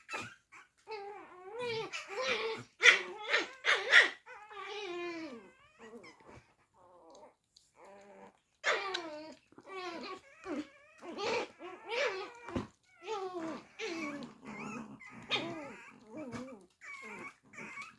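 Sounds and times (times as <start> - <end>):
small dog whining and grumbling: 0.0 - 17.9.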